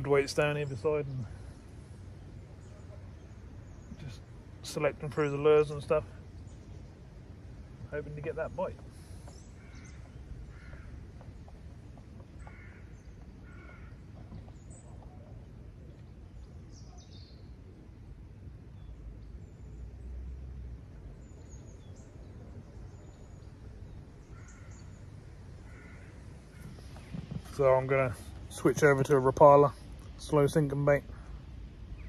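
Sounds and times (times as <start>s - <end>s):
birds harsh calls: 0.0s - 15.5s, 21.1s - 32.0s
steady low rumble: 0.0s - 32.0s.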